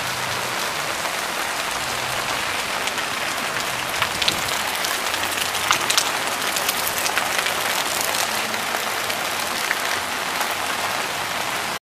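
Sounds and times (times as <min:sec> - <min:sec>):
heavy rain on a flooded street: 0:00.0 - 0:11.8.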